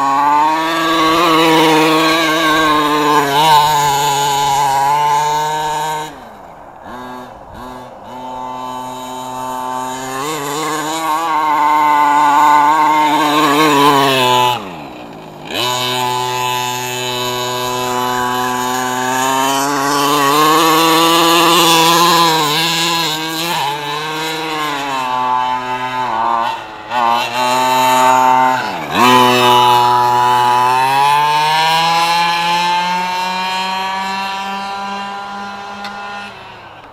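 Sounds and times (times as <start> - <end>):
rc truck engine revving: 0.0 - 36.9.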